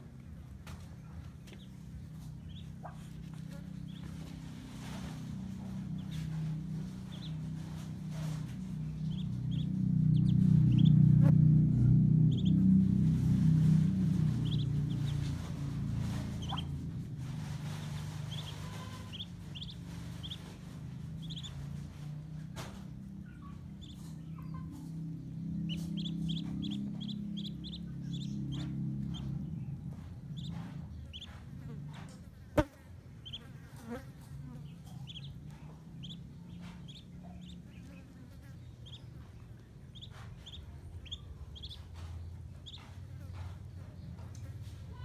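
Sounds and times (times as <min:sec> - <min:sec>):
ducklings peeping: 0:00.0 - 0:45.0
low steady hum: 0:00.0 - 0:45.0.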